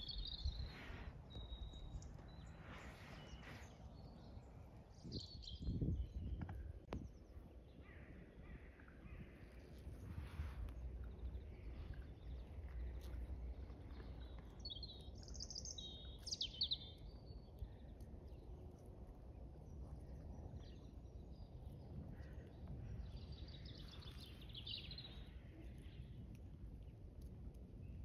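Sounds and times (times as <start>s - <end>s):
birds singing: 0.0s - 26.2s
low outdoor rumble: 0.0s - 28.0s.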